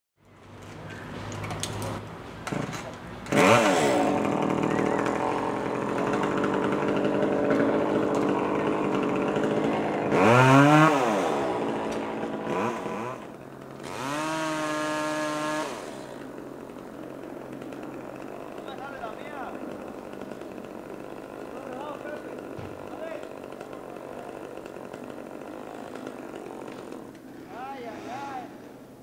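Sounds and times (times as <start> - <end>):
chainsaw revving: 1.3 - 28.6.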